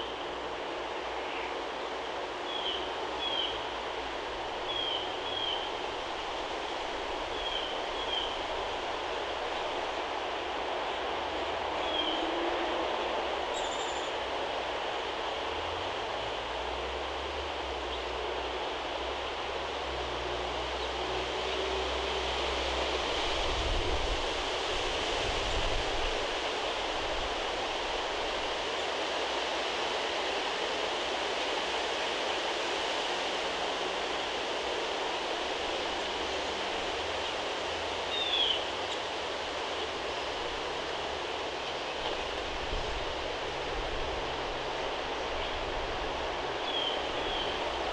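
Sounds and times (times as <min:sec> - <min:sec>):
low rumble of distant traffic: 0:00.0 - 0:47.9.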